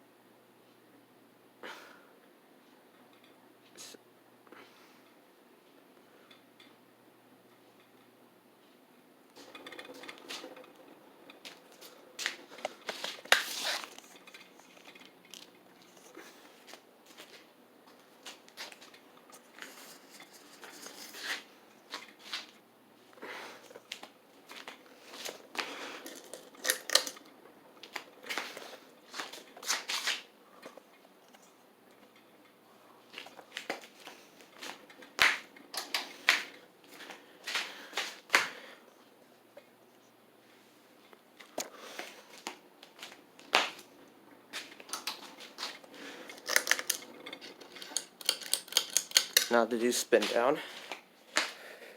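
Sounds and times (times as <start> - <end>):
ceiling fan rattling and clicking: 1.6 - 3.8, 4.4 - 39.8, 41.0 - 51.6.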